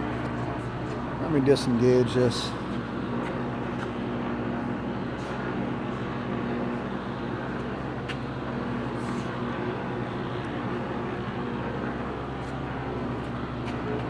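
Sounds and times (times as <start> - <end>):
lathe machine hum: 0.0 - 14.0.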